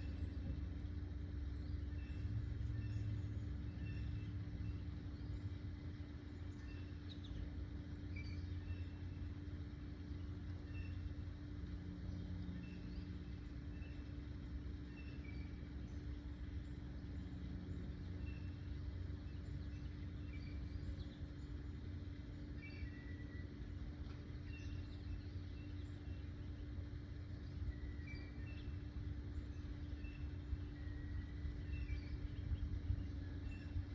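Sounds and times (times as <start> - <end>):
low rumble and hum: 0.0 - 33.9
small birds chirping: 0.0 - 33.9.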